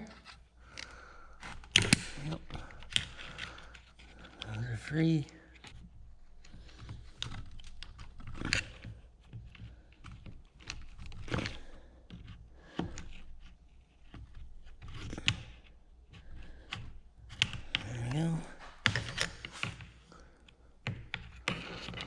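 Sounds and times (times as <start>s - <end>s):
small clicks and scrapes: 0.0s - 22.0s.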